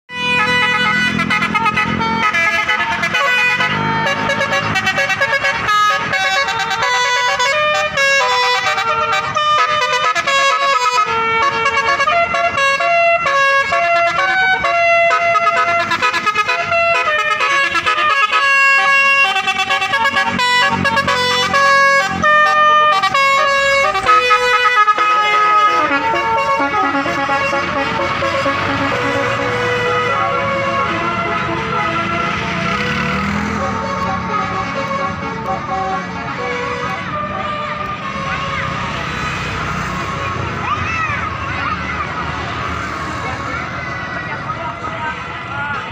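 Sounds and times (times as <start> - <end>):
musical air horns playing tune: 0.1 - 39.2.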